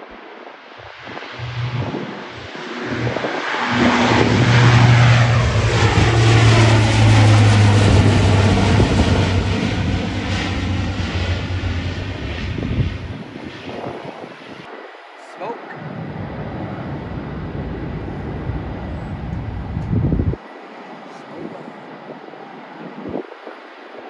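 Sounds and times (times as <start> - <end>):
propeller aircraft droning overhead: 0.2 - 15.1, 15.7 - 24.0.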